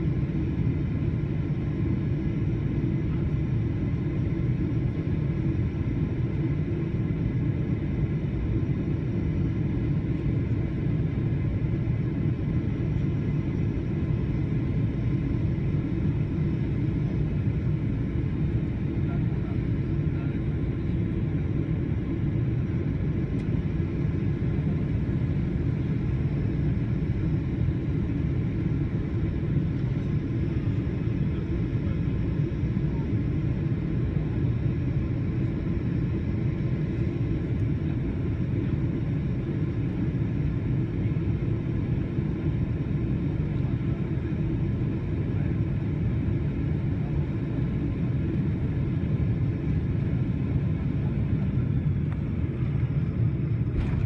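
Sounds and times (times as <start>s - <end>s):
airliner cabin low rumble: 0.0s - 54.0s.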